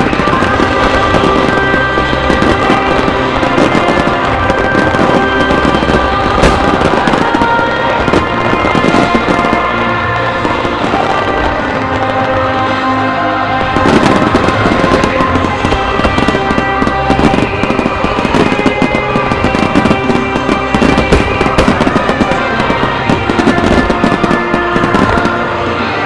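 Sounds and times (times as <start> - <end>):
fireworks bursts and crackles: 0.0 - 26.0
loud music: 0.0 - 26.0.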